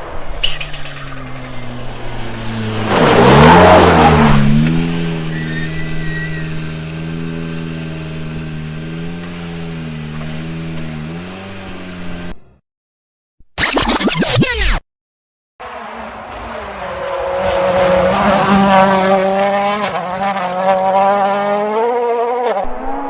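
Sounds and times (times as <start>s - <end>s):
rally car engine passing: 0.0s - 12.3s, 15.6s - 23.0s.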